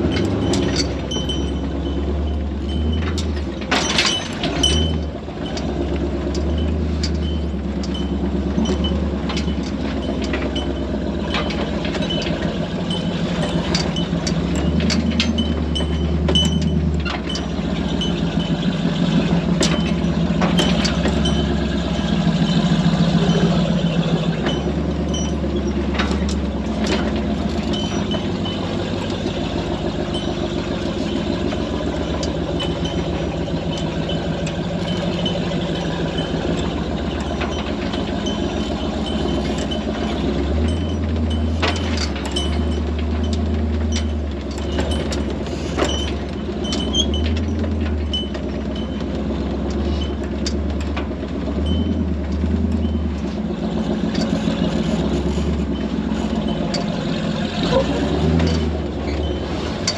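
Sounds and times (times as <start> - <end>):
metal clanks and rattles: 0.0 - 59.9
truck engine running: 0.0 - 59.9.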